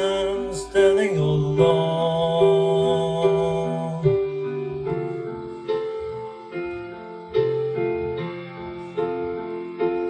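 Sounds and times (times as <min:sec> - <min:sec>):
sustained instrumental chords: 0:00.0 - 0:10.0.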